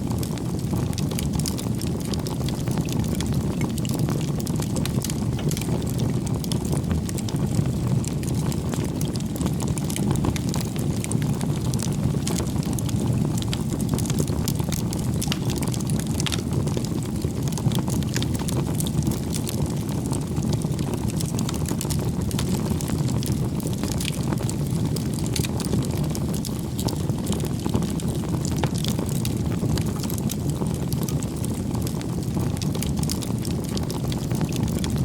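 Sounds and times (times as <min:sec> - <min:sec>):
bonfire flames rumbling and crackling: 0:00.0 - 0:35.0.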